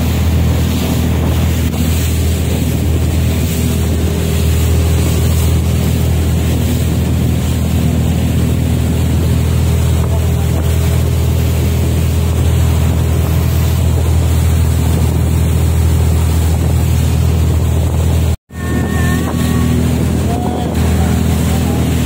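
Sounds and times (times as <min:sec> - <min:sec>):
boat engine running: 0:00.0 - 0:22.0
water churning: 0:00.0 - 0:22.0
wind buffeting microphone: 0:00.0 - 0:22.0.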